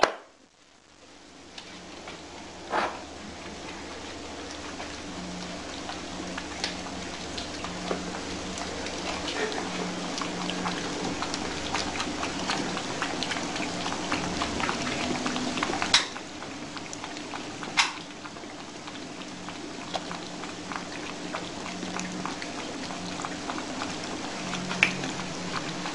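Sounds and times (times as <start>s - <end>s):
kittens chewing and lapping: 0.6s - 25.9s.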